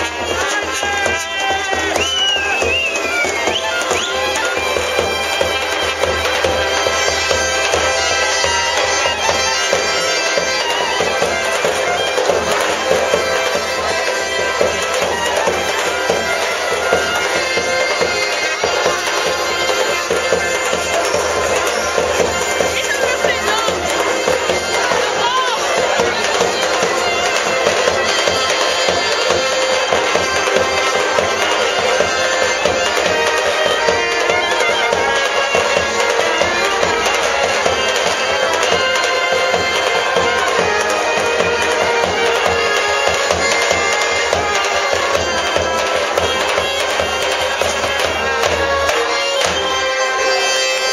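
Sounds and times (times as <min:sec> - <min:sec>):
folk band with trumpet: 0:00.0 - 0:50.9.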